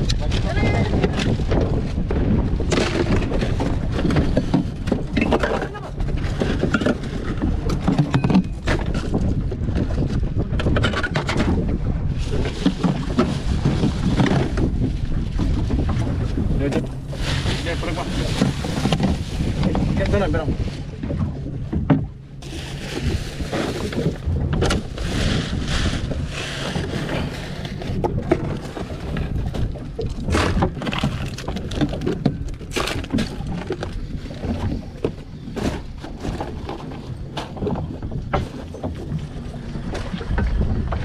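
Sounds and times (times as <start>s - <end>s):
low rumble of wind and boat: 0.0s - 41.0s.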